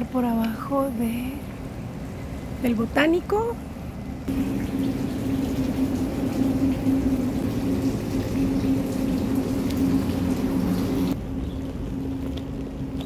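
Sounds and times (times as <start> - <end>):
constant low hum: 0.0 - 13.0
water feature rushing: 1.0 - 13.0.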